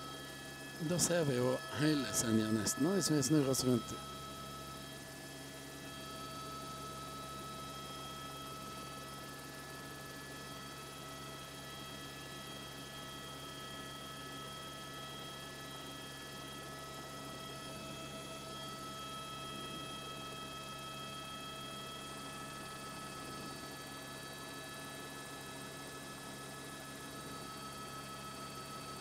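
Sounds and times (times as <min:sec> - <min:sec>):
helicopter hum through intercom: 0:00.0 - 0:29.0.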